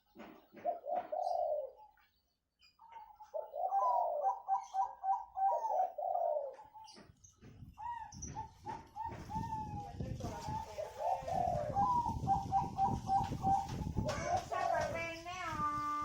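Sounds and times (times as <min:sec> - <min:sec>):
doves cooing: 0:00.2 - 0:02.0, 0:02.8 - 0:15.2.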